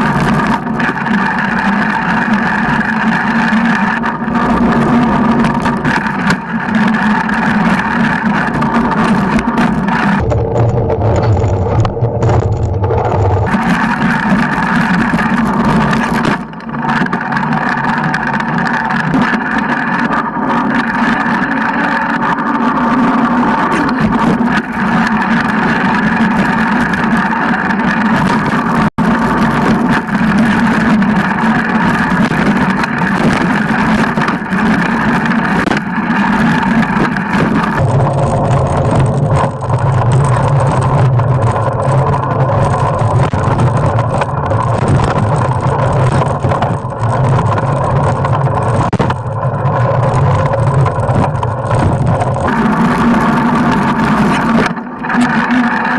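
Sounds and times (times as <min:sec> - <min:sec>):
constant hum: 0:00.0 - 0:55.9
mountain bike rolling: 0:00.0 - 0:55.9
wind noise: 0:00.0 - 0:55.9.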